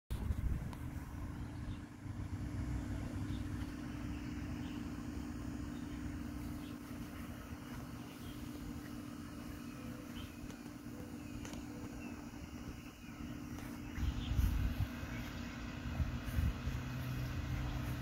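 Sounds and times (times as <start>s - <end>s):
low uneven rumble: 0.1s - 18.0s
mechanical hum: 0.1s - 18.0s.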